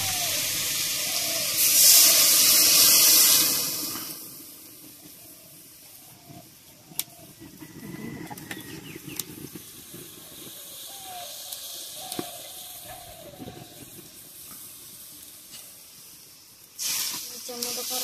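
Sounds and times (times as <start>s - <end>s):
oil crackling: 0.0s - 4.9s, 6.4s - 18.0s
fish sizzling in hot oil: 0.0s - 18.0s.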